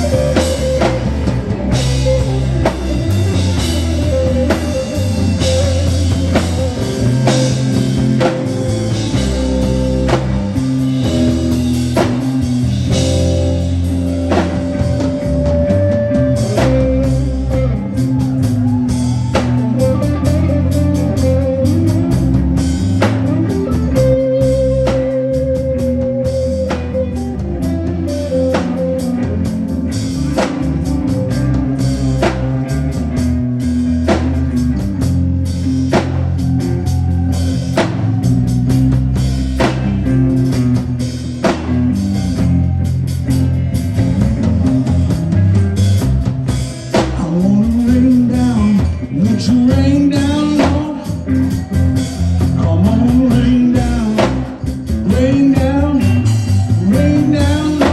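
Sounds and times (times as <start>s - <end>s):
lead guitar sustained notes: 0.0s - 46.9s
band playing a groove: 0.0s - 57.9s.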